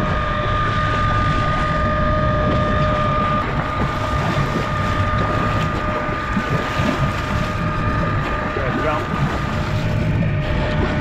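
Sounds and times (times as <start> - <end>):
boat engine rumble: 0.0 - 11.0
steady whine: 0.0 - 11.0
wind buffeting microphone: 0.0 - 11.0.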